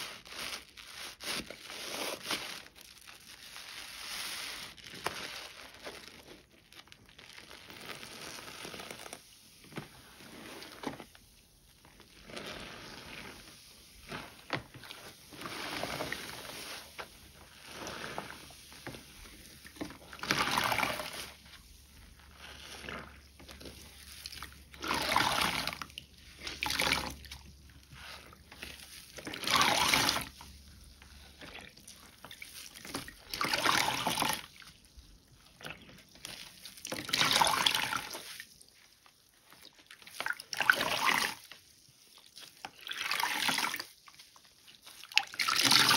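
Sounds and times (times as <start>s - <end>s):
wet soap lathering: 7.3s - 45.9s.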